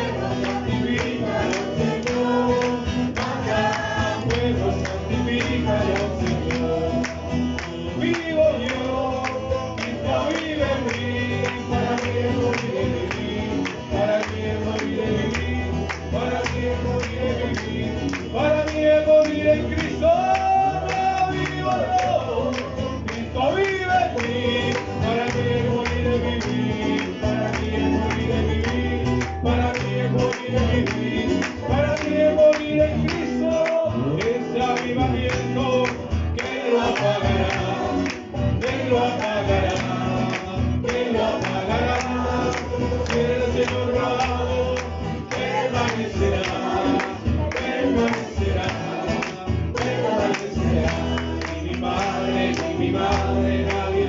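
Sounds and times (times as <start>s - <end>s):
congregation singing: 0.0s - 54.0s
man leading singing: 0.0s - 54.0s
strummed acoustic guitar: 0.0s - 54.0s.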